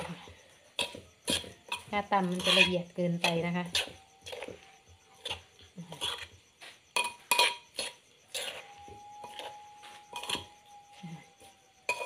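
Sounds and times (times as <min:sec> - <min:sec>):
knocks and clinks in clay mortar: 0:00.0 - 0:10.6, 0:11.3 - 0:12.0.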